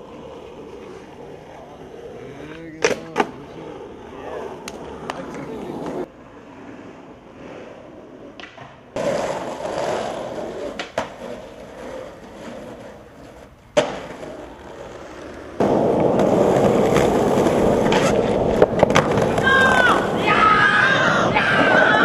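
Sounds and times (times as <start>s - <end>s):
skateboard clacks: 0.0s - 6.1s, 8.2s - 22.0s
skateboard wheels rolling on pavement: 0.0s - 22.0s.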